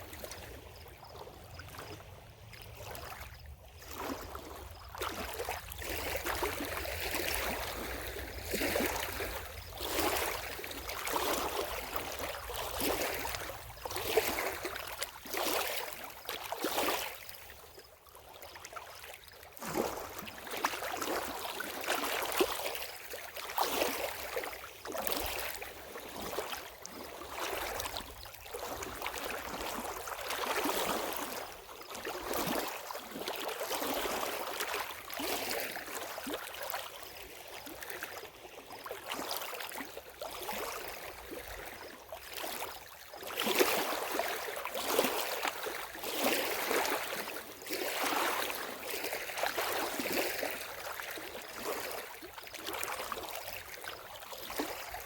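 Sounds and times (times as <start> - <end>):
water lapping at shore: 0.0 - 55.0.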